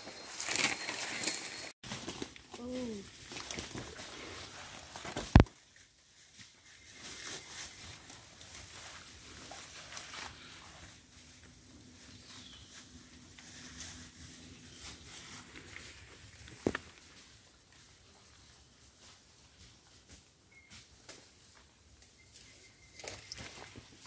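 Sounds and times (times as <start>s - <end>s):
rustling of wet undergrowth: 0.0s - 24.0s.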